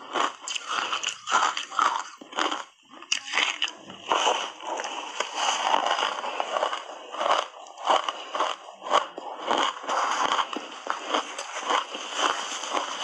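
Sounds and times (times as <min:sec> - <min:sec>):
chewing ice crunches: 0:00.0 - 0:13.0.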